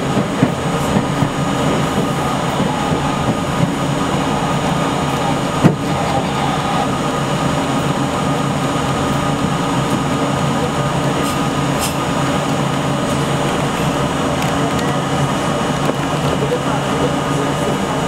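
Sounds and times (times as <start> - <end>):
idling train equipment hum: 0.0 - 18.0.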